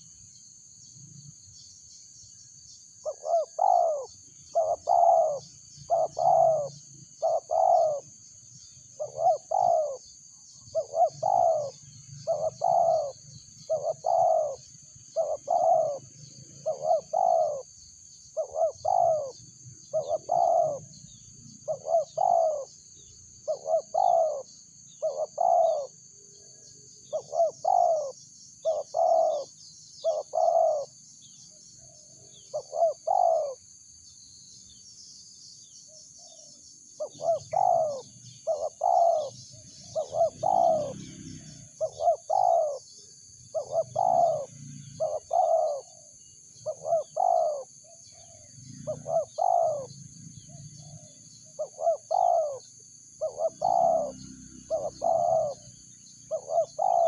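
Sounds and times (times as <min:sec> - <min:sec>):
dove cooing: 0:03.0 - 0:08.2, 0:08.8 - 0:22.7, 0:23.4 - 0:31.0, 0:31.8 - 0:33.6, 0:36.2 - 0:57.0.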